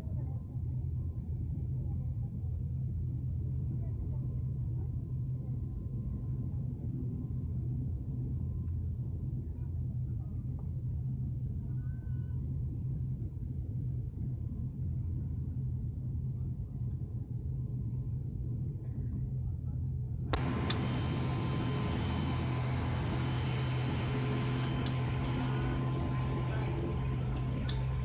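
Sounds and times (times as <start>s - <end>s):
turboprop engines droning: 0.1s - 28.0s.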